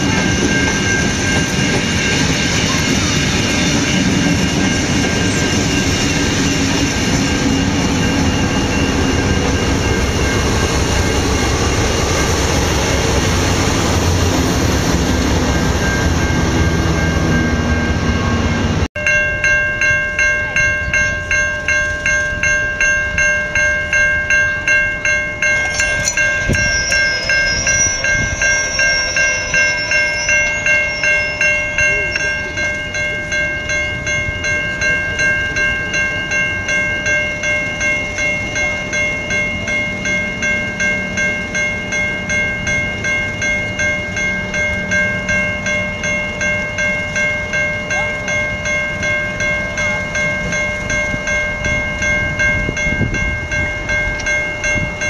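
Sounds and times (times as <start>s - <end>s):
diesel locomotive running: 0.0s - 55.0s
level-crossing bell ringing: 0.0s - 55.0s
train wheels rumbling: 0.0s - 55.0s.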